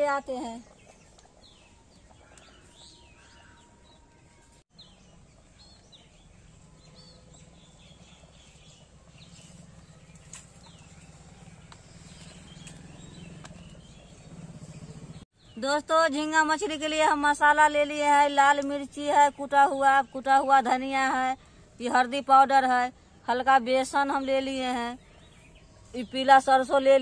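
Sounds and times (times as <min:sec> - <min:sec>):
birds chirping and twittering: 0:00.0 - 0:21.7, 0:23.8 - 0:27.0.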